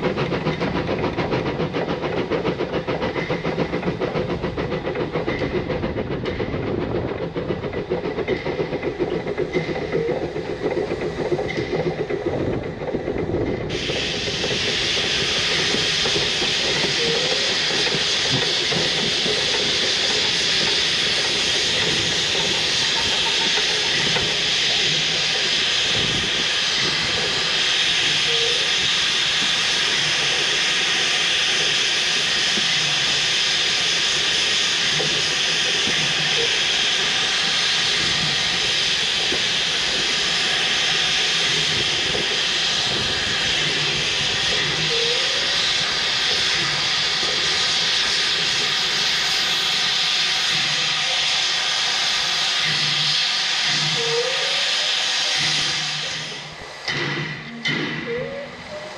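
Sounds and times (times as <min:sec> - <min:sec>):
steam locomotive hissing steam: 0:00.0 - 0:58.9
train wheels rumbling on rails: 0:00.0 - 0:58.9.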